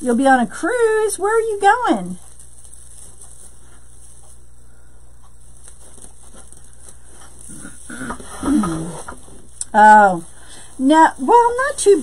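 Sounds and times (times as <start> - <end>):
low hum and hiss: 0.0 - 12.0
mesh rustling and ticking: 0.0 - 12.0.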